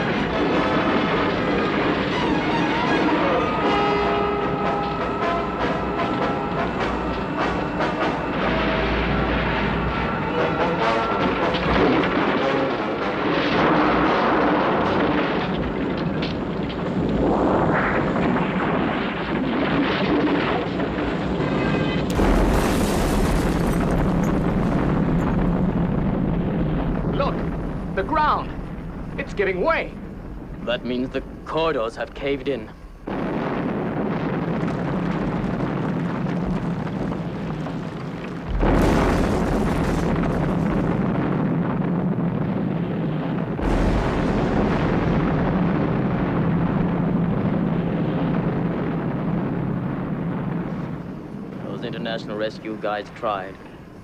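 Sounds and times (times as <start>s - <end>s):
loud explosion: 0.0s - 52.4s
burning building collapsing roar: 0.0s - 54.0s.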